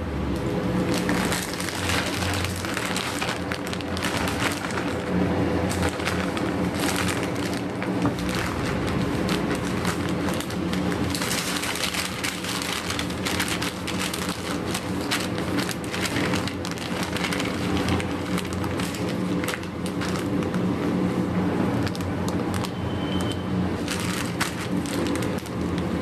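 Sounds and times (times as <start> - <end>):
steady low hum: 0.0 - 26.0
plastic bags crinkling: 0.6 - 26.0.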